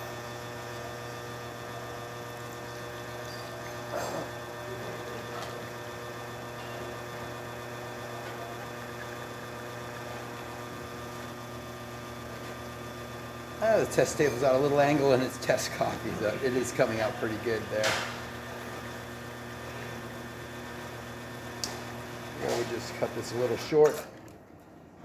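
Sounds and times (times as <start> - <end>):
espresso machine pump humming: 0.0 - 24.6.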